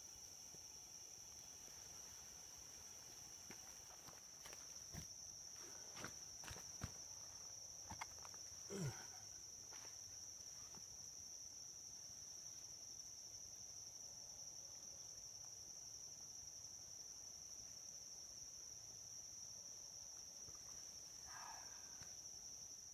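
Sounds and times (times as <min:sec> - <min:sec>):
insects droning: 0:00.0 - 0:22.9.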